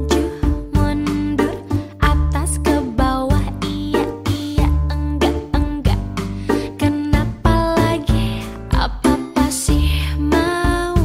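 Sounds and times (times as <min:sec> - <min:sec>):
pop song: 0:00.0 - 0:11.0.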